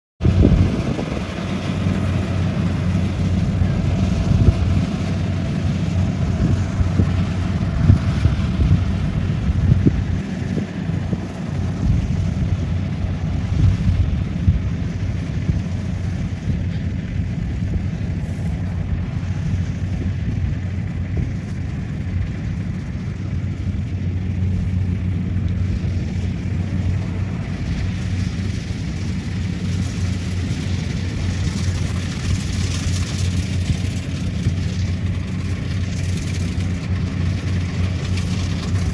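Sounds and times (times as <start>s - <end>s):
combine harvester engine hum: 0.2s - 38.9s.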